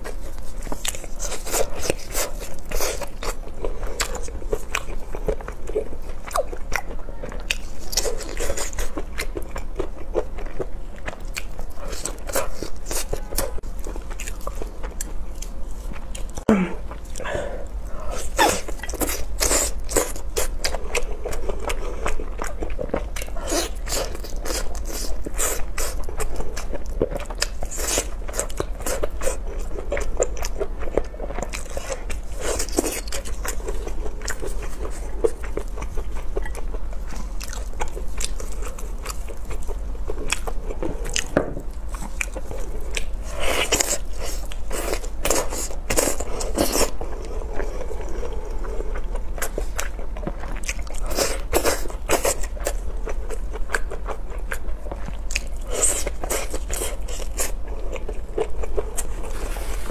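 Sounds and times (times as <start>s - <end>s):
person chewing and crunching: 0.0s - 59.9s
steady low hum: 0.0s - 59.9s.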